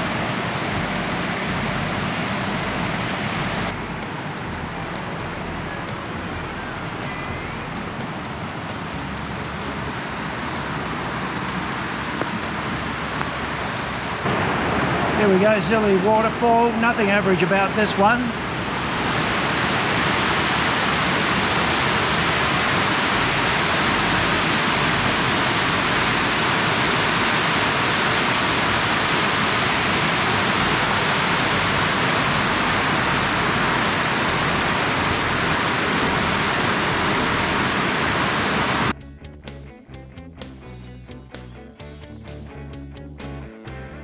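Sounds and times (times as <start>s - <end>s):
waterfall rushing: 0.0s - 38.9s
guitar music: 0.0s - 44.0s.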